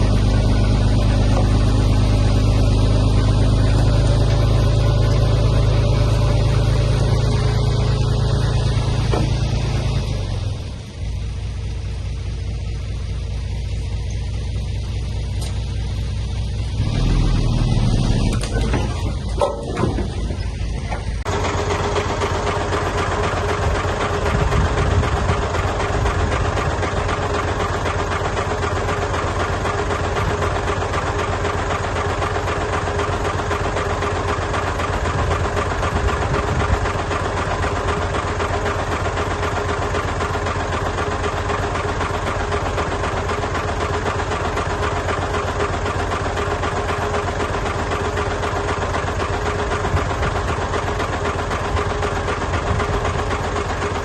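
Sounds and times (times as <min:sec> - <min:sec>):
diesel engine chugging: 0:00.0 - 0:54.0
engine whine: 0:00.0 - 0:54.0.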